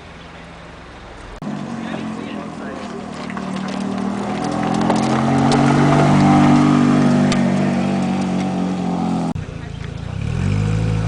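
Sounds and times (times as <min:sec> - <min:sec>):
sports car driving by: 0:00.4 - 0:11.0.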